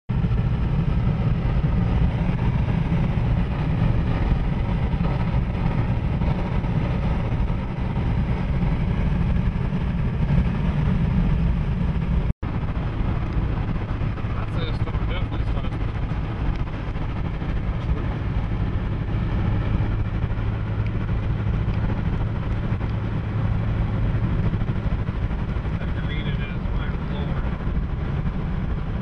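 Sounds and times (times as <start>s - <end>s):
road and engine noise in vehicle: 0.1s - 29.0s.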